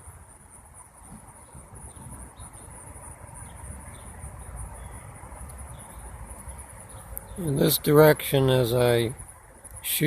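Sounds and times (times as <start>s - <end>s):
insects trilling: 0.0s - 10.0s
low background noise: 0.0s - 10.0s.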